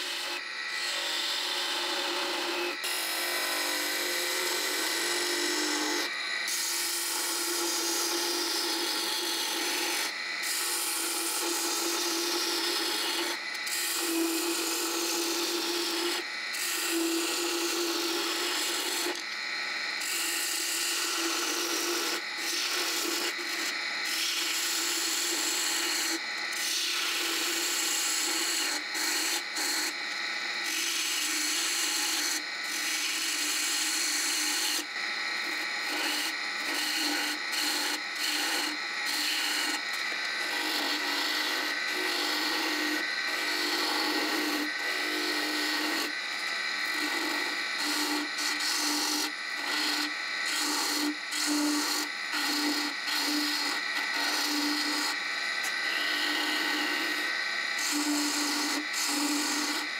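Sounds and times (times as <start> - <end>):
lathe gouge cutting wood: 0.0 - 59.9.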